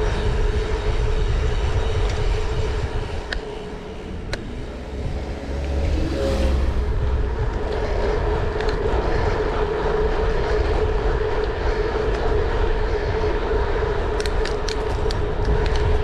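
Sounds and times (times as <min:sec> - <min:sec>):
vehicle rumble and hum: 0:00.0 - 0:16.0.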